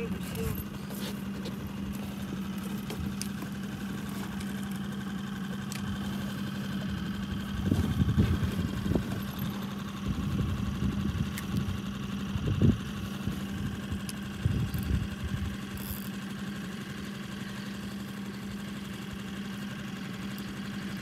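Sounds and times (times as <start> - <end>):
outboard motor droning: 0.0 - 21.0.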